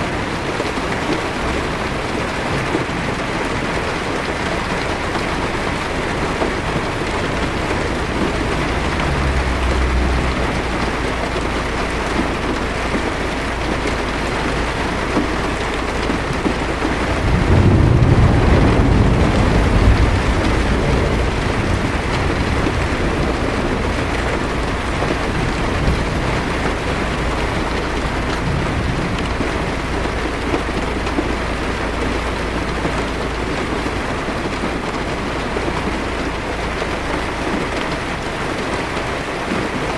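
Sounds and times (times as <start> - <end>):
distant thunder rumbling: 0.0 - 39.9
heavy rain on car windshield: 0.0 - 39.9.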